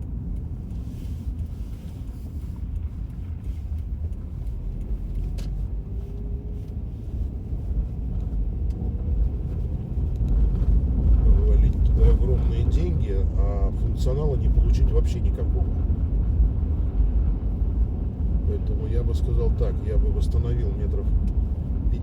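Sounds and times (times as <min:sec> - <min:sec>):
car interior rumble: 0:00.0 - 0:22.0.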